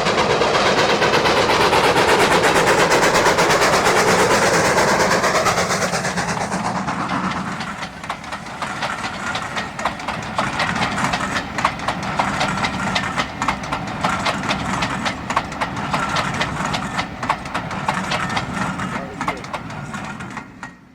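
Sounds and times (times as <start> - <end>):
steam train passing: 0.0 - 20.9
carriage wheels clicking over rail joints: 1.5 - 20.9.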